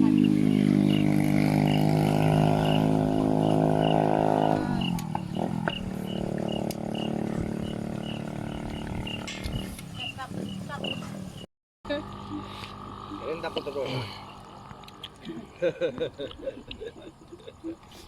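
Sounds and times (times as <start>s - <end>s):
engine running: 0.0s - 17.1s.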